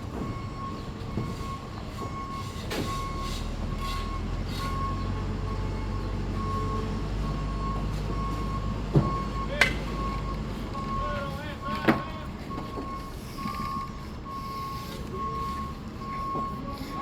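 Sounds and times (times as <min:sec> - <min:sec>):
heavy machine engine running: 0:00.0 - 0:17.0
reversing alarm beeping: 0:00.0 - 0:17.0.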